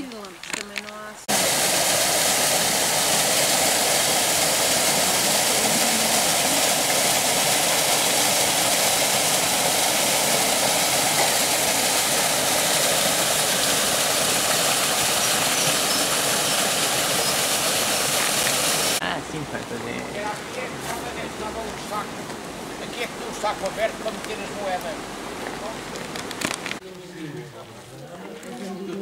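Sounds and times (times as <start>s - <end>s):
small waterfall rushing: 1.2s - 26.8s.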